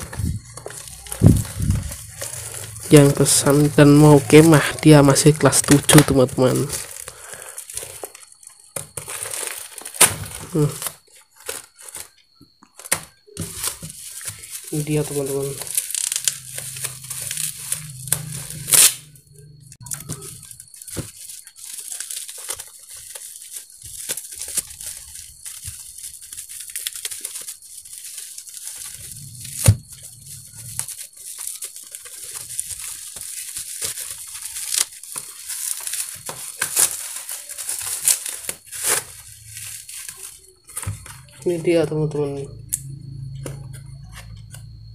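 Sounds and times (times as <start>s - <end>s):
bubble wrap cracks: 0.0s - 19.2s, 19.8s - 41.4s
bubble wrap crinkling: 0.0s - 44.9s.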